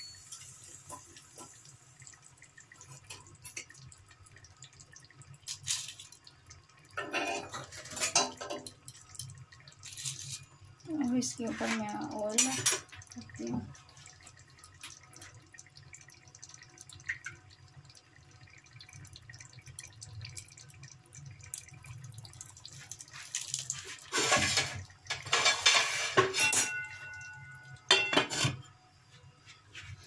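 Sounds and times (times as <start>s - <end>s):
oil sizzling on hot charcoal: 0.0s - 28.6s
oil trickling: 0.1s - 29.1s.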